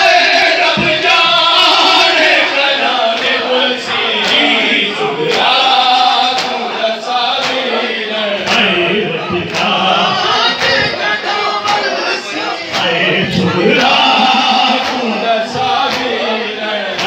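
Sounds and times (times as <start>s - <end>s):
men chanting in unison: 0.0s - 17.0s
sharp beats: 0.4s - 17.0s.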